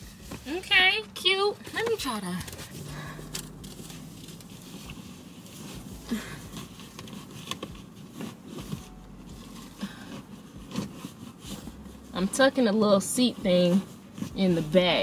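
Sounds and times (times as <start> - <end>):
fabric rustling: 2.5 - 15.0.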